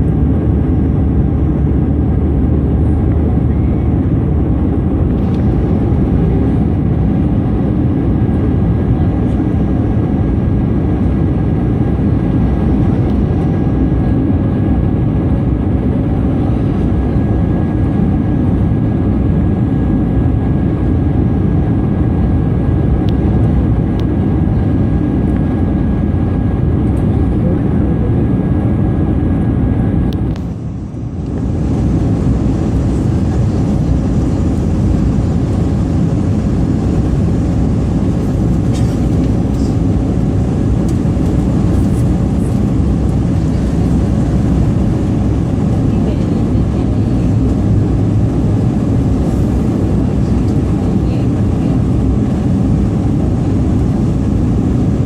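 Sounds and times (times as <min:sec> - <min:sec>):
jet engine roar in cabin: 0:00.0 - 0:55.0.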